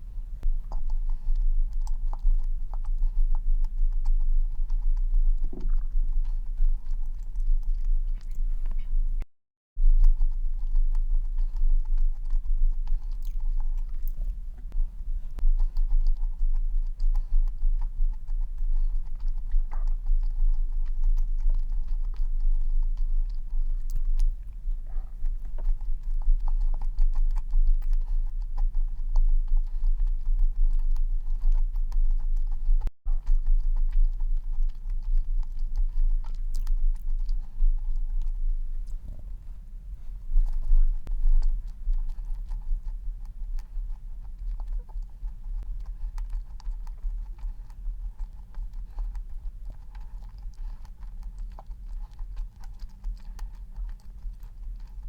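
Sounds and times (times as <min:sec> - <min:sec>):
person chewing: 0:00.0 - 0:09.2, 0:09.8 - 0:55.0.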